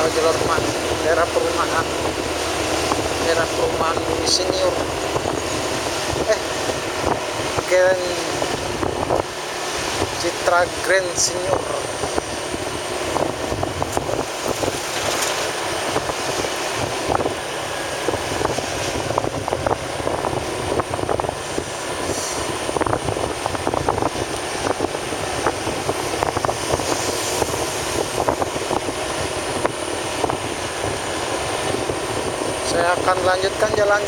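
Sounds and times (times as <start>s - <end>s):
vehicle road noise: 0.0s - 34.0s
wind on microphone: 0.0s - 34.0s.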